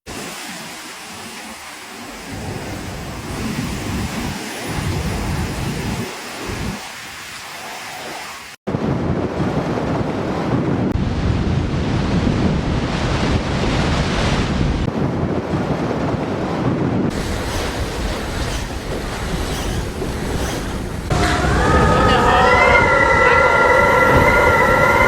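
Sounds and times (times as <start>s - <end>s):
rushing surf: 0.0s - 25.0s
wind blowing across microphone: 1.1s - 25.0s.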